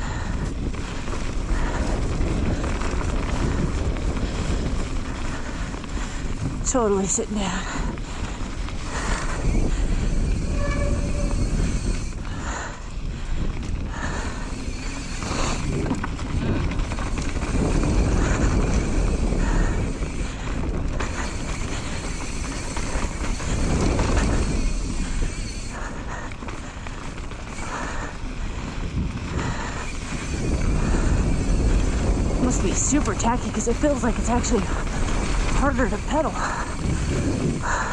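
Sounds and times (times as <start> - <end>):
bike rattling over bumps: 0.0 - 37.9
bike tyre noise on dirt: 0.0 - 37.9
wind buffeting microphone: 0.0 - 37.9.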